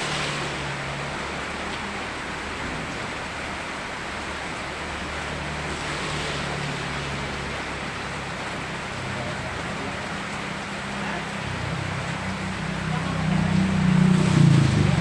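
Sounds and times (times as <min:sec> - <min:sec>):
rushing river water: 0:00.0 - 0:15.0
steady rain: 0:00.0 - 0:15.0.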